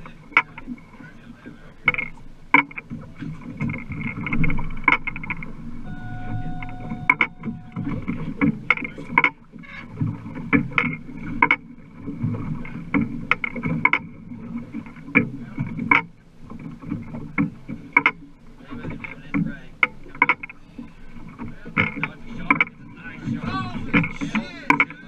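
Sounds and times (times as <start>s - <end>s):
boat engine with thin whine: 0.0s - 25.0s
hull and gear knocking: 1.8s - 22.8s, 23.4s - 25.0s.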